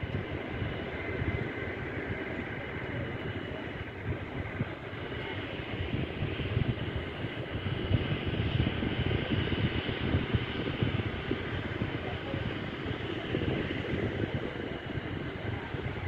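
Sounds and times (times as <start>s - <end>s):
distant jet engines rumbling: 0.0s - 16.0s
wind buffeting microphone: 0.0s - 16.0s.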